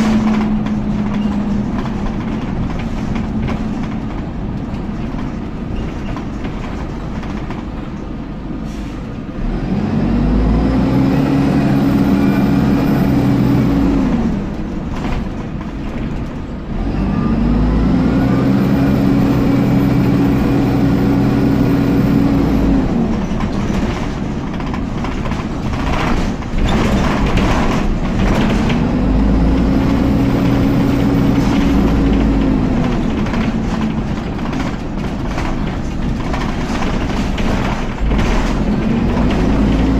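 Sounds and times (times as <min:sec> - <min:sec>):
bus running and road noise: 0:00.0 - 0:39.9.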